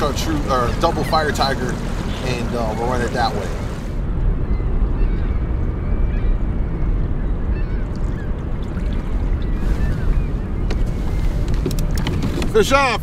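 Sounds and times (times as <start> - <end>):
distant bird calls: 0.0 - 12.8
wind buffeting microphone: 0.0 - 13.0.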